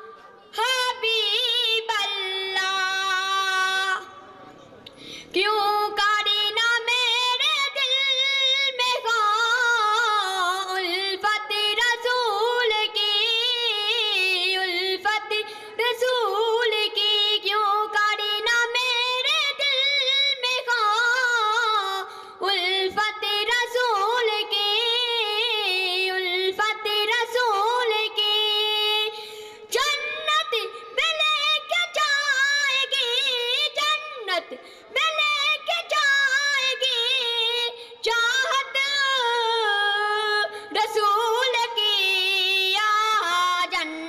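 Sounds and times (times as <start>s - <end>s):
boy singing unaccompanied: 0.0s - 4.1s, 5.3s - 44.0s.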